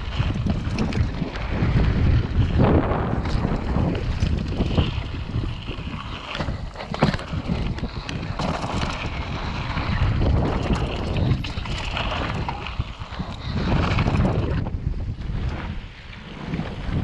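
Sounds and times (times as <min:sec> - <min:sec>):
bike tyre and frame rumble: 0:00.0 - 0:17.0
wind buffeting microphone: 0:00.0 - 0:17.0.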